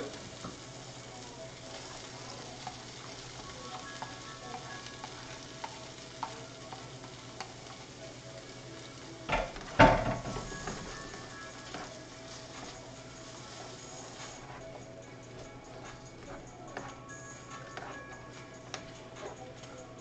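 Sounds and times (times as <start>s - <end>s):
frying pan sizzling: 0.0s - 20.0s.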